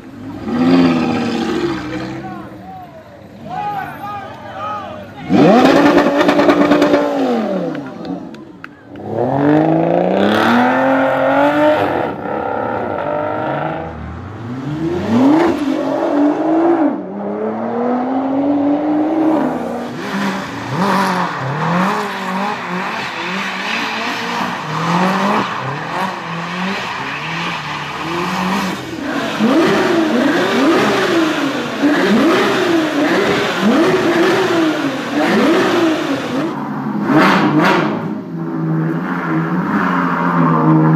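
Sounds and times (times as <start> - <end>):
car engines revving hard: 0.0 - 2.6, 5.1 - 40.9.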